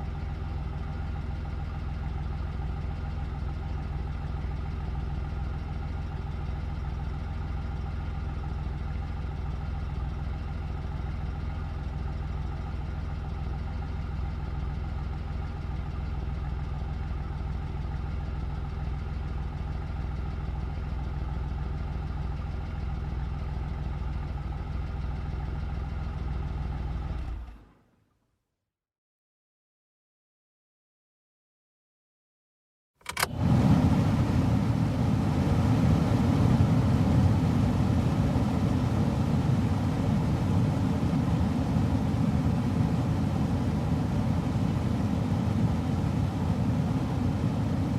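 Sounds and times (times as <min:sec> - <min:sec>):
car engine idling: 0:00.0 - 0:27.4, 0:33.1 - 0:47.9.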